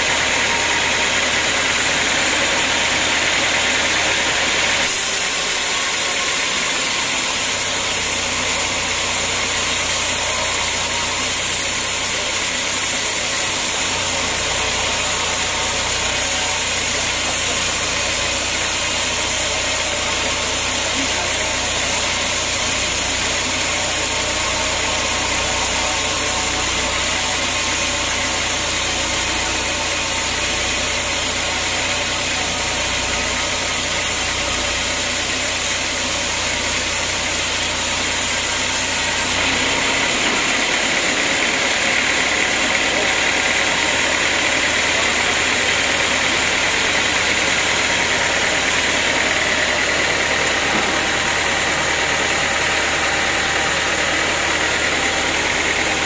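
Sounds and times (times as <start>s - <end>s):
band saw cutting log: 0.0s - 56.0s.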